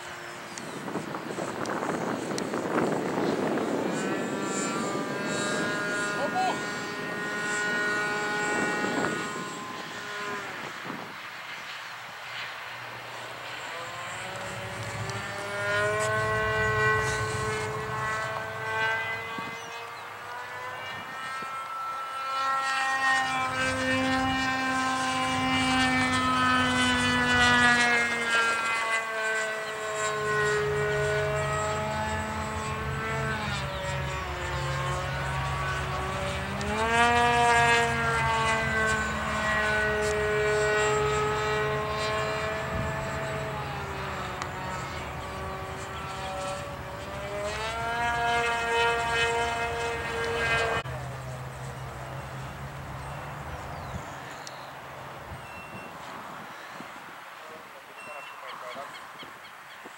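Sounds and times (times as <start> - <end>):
model airplane engine and propeller: 0.0 - 59.9.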